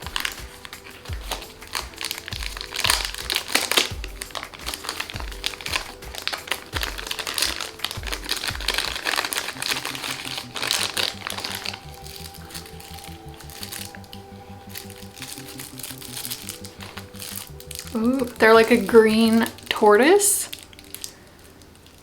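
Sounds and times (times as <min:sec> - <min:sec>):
background music: 0:00.0 - 0:22.0
packaging crinkling: 0:00.0 - 0:22.0.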